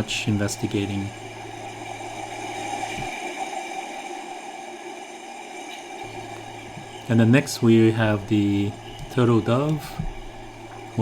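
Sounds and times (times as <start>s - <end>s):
faint electrical whine: 0.0s - 11.0s
low hum: 0.0s - 11.0s.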